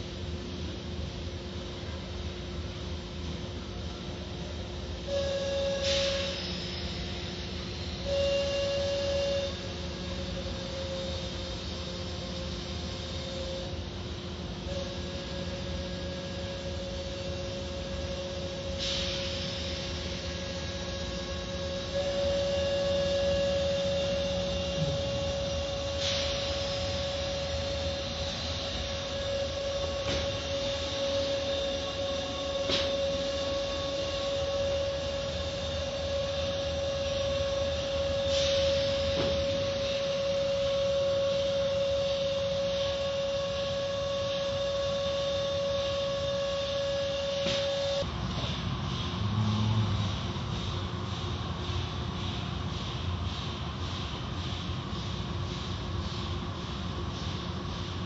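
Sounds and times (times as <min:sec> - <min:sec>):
car wash machinery hum: 0:00.0 - 0:58.0
constant whine: 0:00.0 - 0:58.0.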